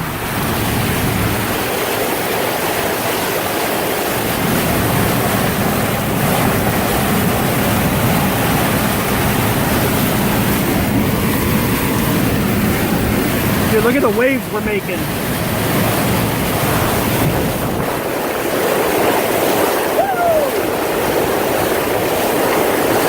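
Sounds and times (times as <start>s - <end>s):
floodwater rushing and splashing: 0.0s - 23.0s.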